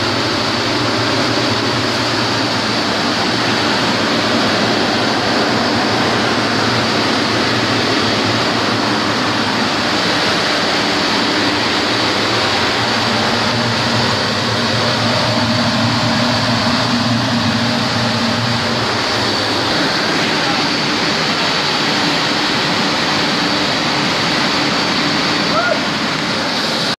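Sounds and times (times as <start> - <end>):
machinery hum: 0.0 - 27.0
mill machinery din: 0.0 - 27.0
thin high whine: 0.0 - 27.0.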